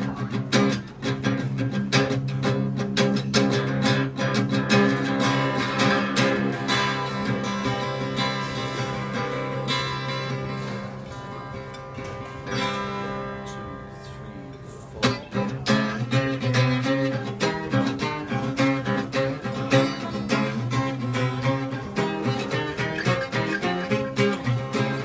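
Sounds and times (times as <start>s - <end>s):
guitar strumming and picking: 0.0s - 25.0s.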